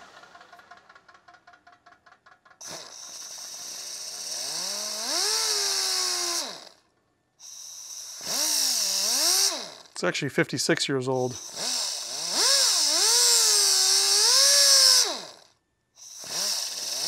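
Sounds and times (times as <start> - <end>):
die grinder whine: 0.0 - 10.0, 11.1 - 17.0.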